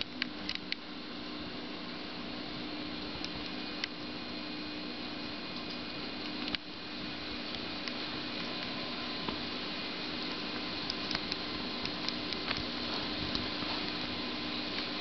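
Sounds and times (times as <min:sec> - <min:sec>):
steady hiss and faint hum: 0:00.0 - 0:15.0.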